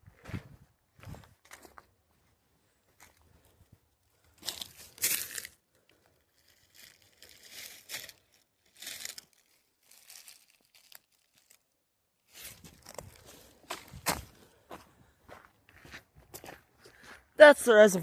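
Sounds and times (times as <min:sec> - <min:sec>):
footsteps crunching on a trail: 0:00.0 - 0:05.6, 0:06.4 - 0:11.0, 0:12.4 - 0:17.6.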